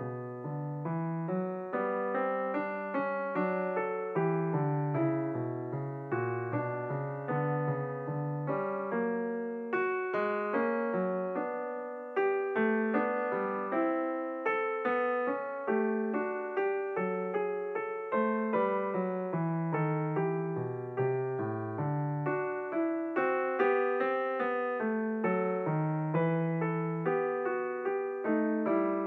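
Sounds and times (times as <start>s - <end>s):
gentle piano music: 0.0s - 29.0s.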